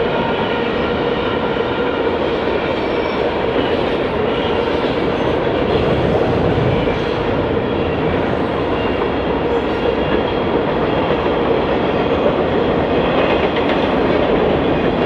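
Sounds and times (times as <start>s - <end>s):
train wheels clicking over rails: 2.2s - 15.0s.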